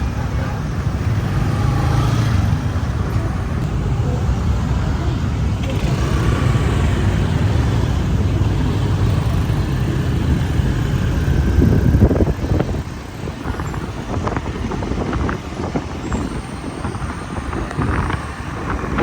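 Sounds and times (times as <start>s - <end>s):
road traffic: 0.0s - 19.0s
motorbike engine: 0.9s - 19.0s.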